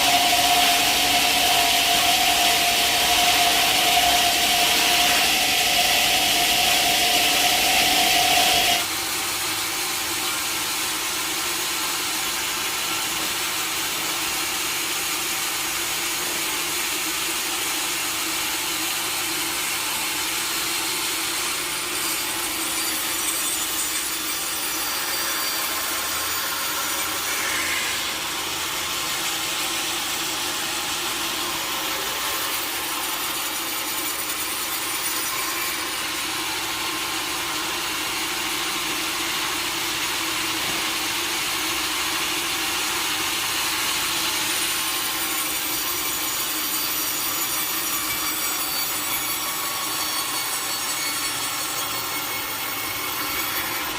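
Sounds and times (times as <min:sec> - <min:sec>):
saw cutting through log: 0:00.0 - 0:53.9.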